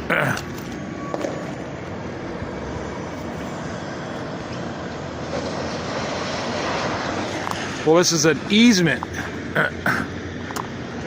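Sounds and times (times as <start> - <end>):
rumbling vehicle noise: 0.0 - 11.0.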